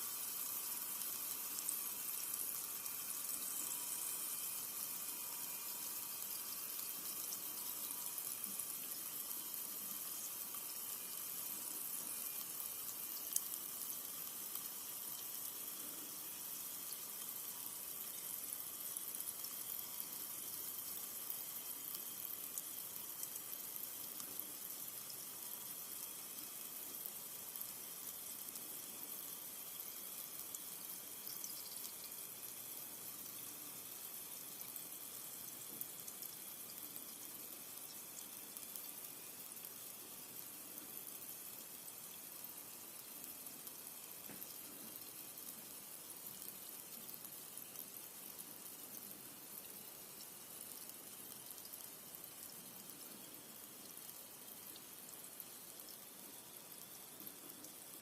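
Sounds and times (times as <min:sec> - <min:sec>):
soda fizzing: 0:00.0 - 0:58.0.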